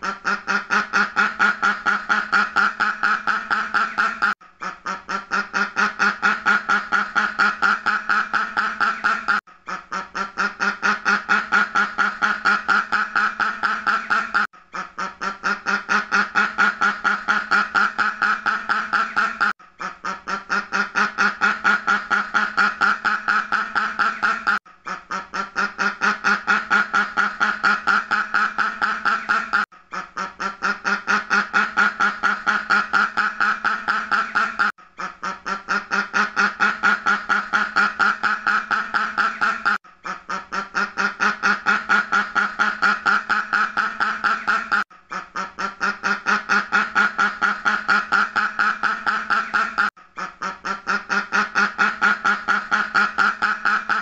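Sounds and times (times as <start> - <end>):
duck quacking: 0.0 - 54.0.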